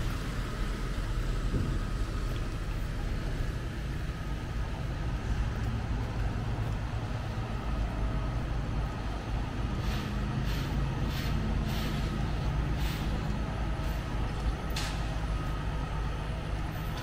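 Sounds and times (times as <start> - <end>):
rain hiss: 0.0 - 5.5, 6.8 - 15.5
rainy street low rumble: 0.0 - 17.0.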